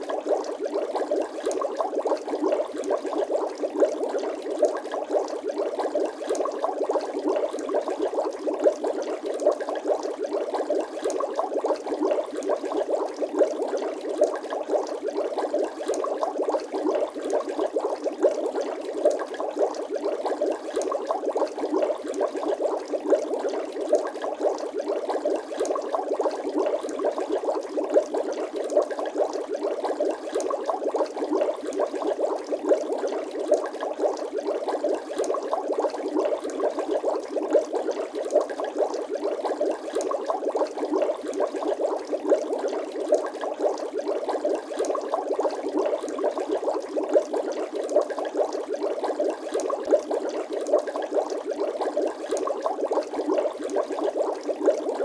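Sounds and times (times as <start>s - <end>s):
water bubbling and popping: 0.0s - 55.0s.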